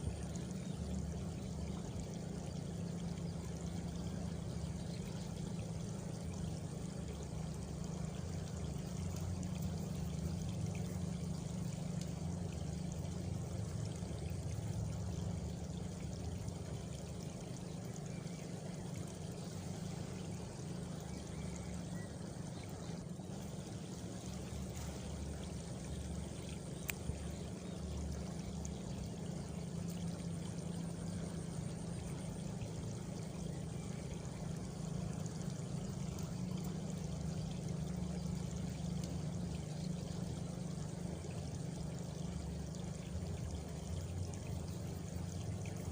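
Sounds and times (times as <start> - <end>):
faint cricket trill: 0.0 - 45.9.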